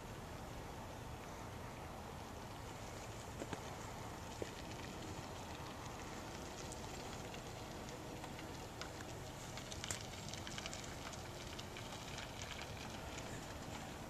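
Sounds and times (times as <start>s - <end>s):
faint outdoor background noise: 0.0s - 14.0s
small clicks and crackles: 2.5s - 14.0s.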